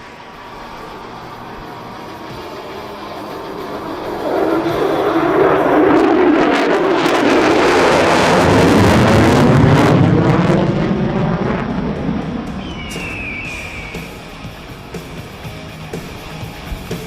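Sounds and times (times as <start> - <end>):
jet flying past: 0.0 - 16.7.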